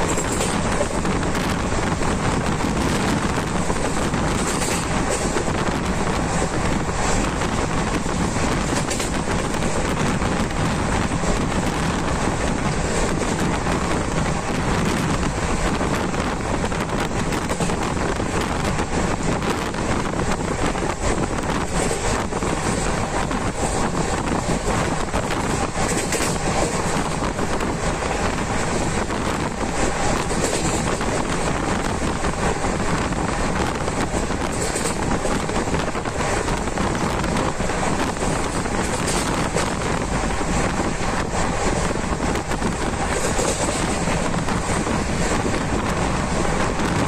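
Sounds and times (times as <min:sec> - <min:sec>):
moving train rushing: 0:00.0 - 0:47.0
wind buffeting microphone: 0:00.0 - 0:47.0.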